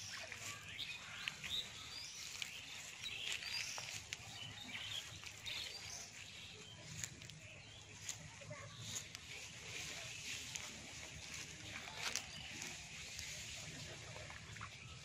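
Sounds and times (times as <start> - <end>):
birds chirping: 0.0 - 15.0
plants brushing and crackling: 0.0 - 15.0.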